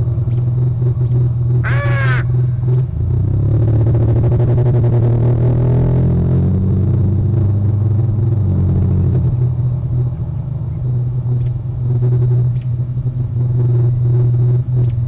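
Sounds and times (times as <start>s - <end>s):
low engine-like drone: 0.0s - 15.0s.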